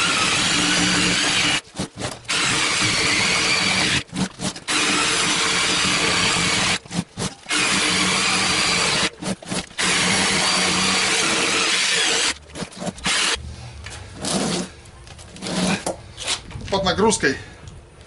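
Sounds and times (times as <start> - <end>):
reciprocating saw cutting rubber: 0.0 - 13.4, 14.2 - 14.7, 15.3 - 15.9.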